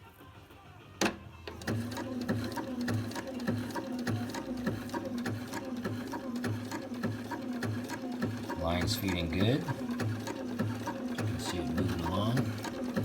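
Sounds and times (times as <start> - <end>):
sewing machine running: 1.5 - 13.0.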